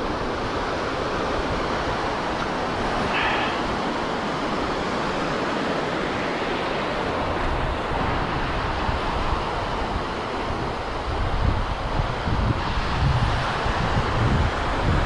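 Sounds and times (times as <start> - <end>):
surf washing over sand: 0.0 - 15.0
wind buffeting microphone: 0.0 - 15.0.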